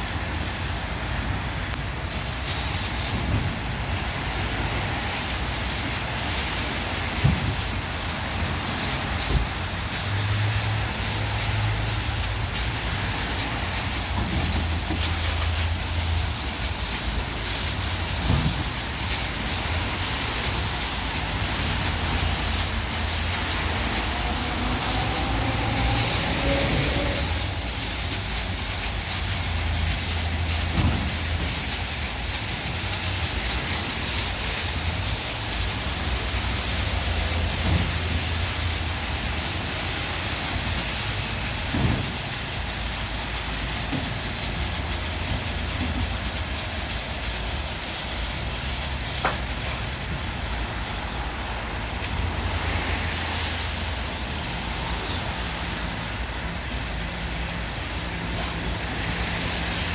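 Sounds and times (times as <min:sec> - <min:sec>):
water spray hissing: 0:00.0 - 0:50.9.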